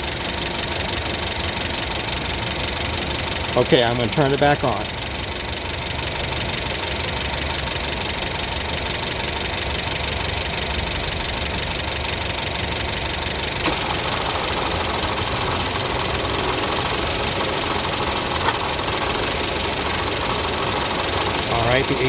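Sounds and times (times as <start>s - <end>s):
car engine idling: 0.0s - 22.0s
compressor clutch click: 0.1s - 9.2s, 11.2s - 22.0s.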